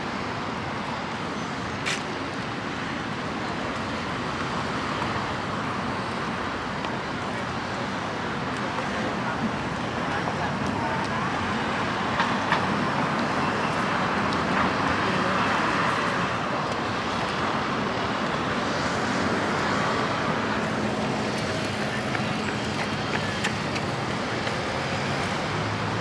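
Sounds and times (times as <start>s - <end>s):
cars passing on busy street: 0.0s - 26.0s.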